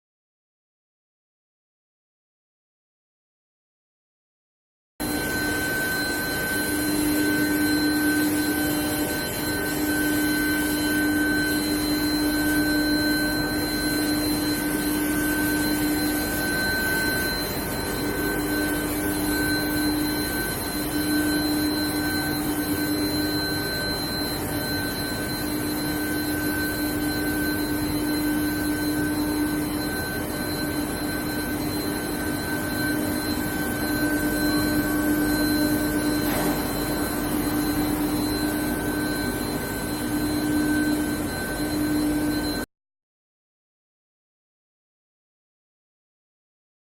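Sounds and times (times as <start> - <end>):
machine whining tones: 5.0 - 42.7.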